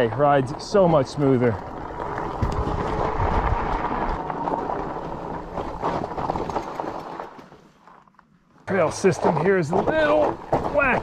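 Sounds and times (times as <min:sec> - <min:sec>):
bike knocking and rattling: 0:00.0 - 0:08.1, 0:08.7 - 0:11.0
bike tires rolling on gravel: 0:00.0 - 0:11.0.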